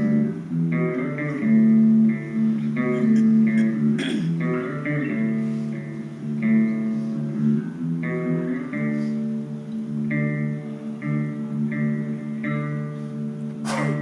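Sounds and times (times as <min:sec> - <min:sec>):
solo guitar licks: 0:00.0 - 0:14.0.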